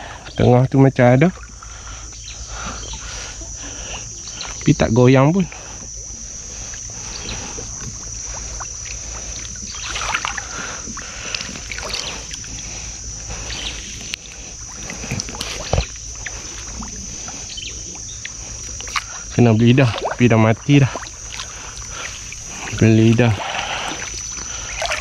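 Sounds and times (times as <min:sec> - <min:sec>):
high insect drone: 0:00.0 - 0:25.0
water splashing and lapping: 0:01.3 - 0:04.7, 0:05.3 - 0:25.0.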